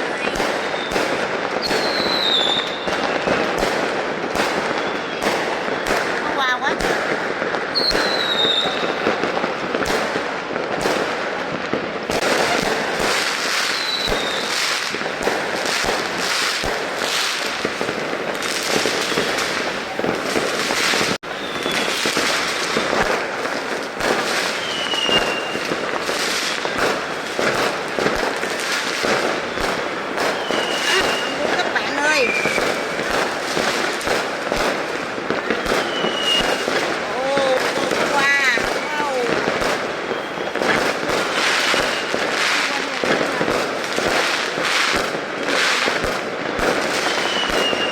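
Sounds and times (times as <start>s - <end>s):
fireworks whistles falling in pitch: 0.0s - 10.2s, 11.7s - 47.9s
fireworks crackling and popping: 0.0s - 47.9s.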